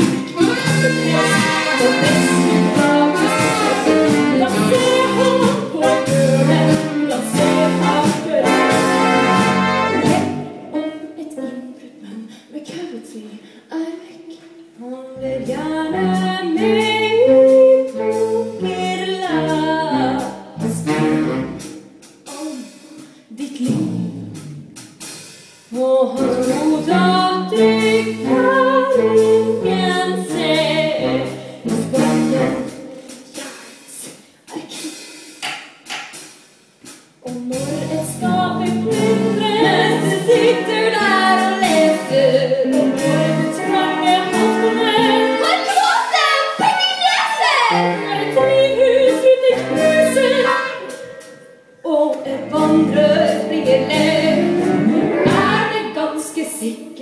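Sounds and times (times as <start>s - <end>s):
band accompaniment: 0.0s - 10.8s, 15.3s - 33.9s, 35.0s - 51.5s, 52.2s - 55.9s
women singing: 0.0s - 20.8s, 25.8s - 34.7s, 37.2s - 57.0s.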